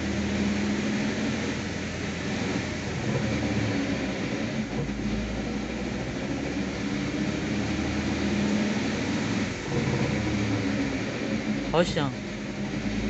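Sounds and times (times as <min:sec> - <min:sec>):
car drivetrain humming loudly: 0:00.0 - 0:13.0.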